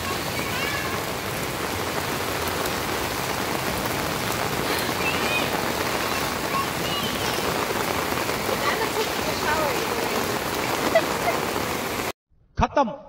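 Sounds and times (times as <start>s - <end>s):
heavy rain on paving and water: 0.0s - 12.2s.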